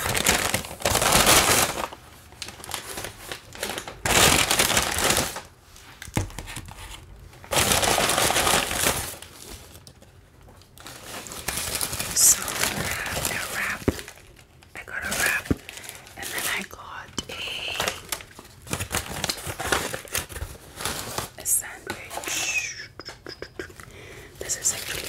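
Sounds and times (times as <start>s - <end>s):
paper bag crinkling: 0.0s - 22.6s, 24.4s - 25.0s.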